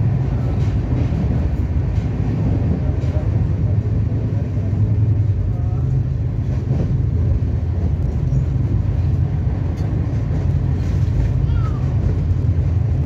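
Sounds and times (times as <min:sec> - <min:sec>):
train rumble from inside coach: 0:00.0 - 0:13.0.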